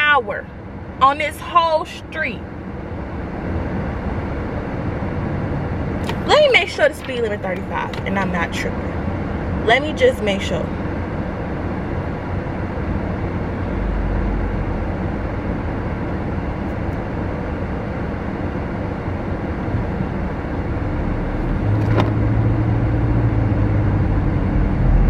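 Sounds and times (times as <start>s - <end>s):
car cabin road and engine noise: 0.0s - 25.0s
low drone: 1.6s - 25.0s.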